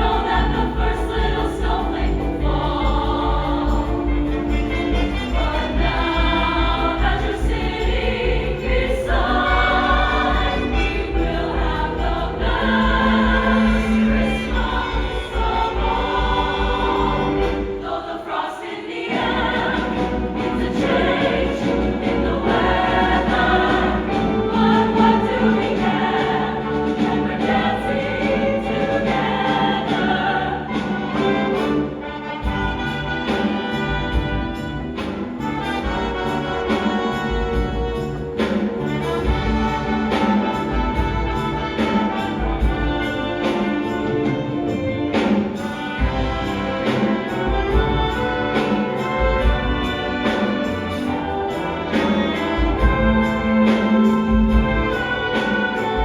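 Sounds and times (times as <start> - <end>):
brass with steady beat: 0.0 - 18.0, 19.1 - 56.0
choir singing: 0.0 - 56.0
orchestral accompaniment: 0.0 - 56.0.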